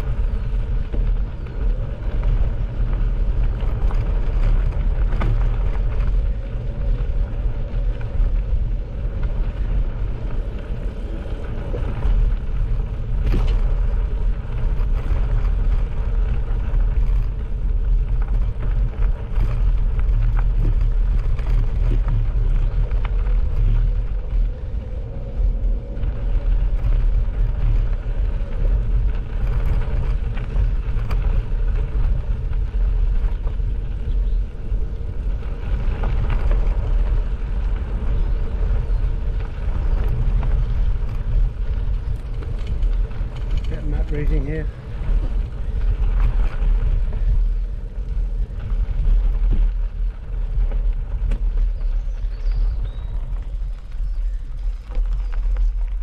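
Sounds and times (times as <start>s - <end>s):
bicycle rumbling on gravel: 0.0s - 56.0s
sharp bicycle clicks: 0.0s - 56.0s.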